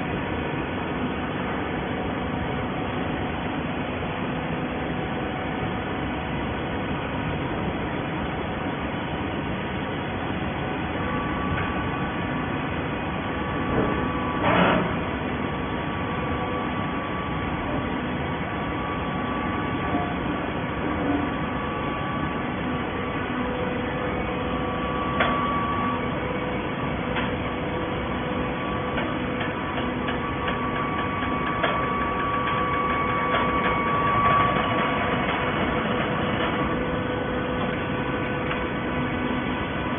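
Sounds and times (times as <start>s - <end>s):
baler machinery running: 0.0s - 39.9s.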